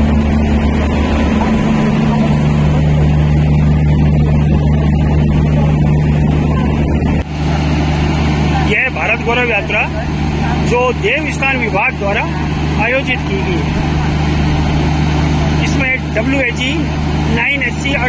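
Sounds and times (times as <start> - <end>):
train machinery droning: 0.0 - 18.0.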